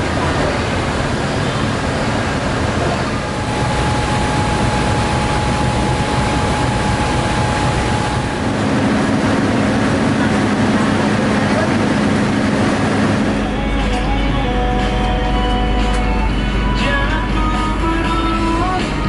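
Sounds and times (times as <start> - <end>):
low hum: 0.0 - 19.0
thin steady whine: 0.0 - 19.0
train rumble and hiss: 0.0 - 19.0.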